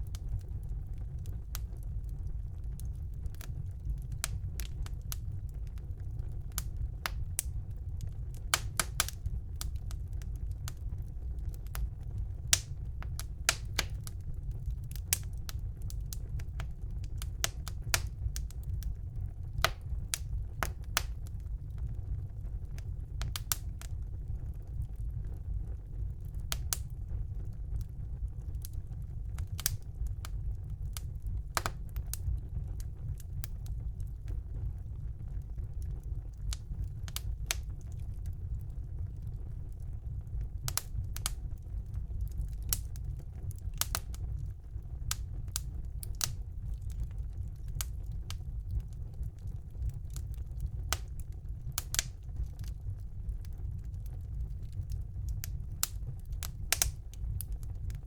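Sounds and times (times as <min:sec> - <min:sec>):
logs popping and crackling: 0:00.0 - 0:25.5, 0:26.2 - 0:58.0
low rumble of flames: 0:00.0 - 0:58.0.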